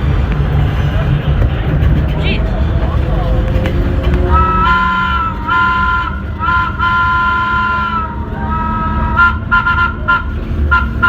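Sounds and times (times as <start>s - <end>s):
steady low rumble: 0.0s - 11.0s
two-tone horn blasts: 1.7s - 11.0s.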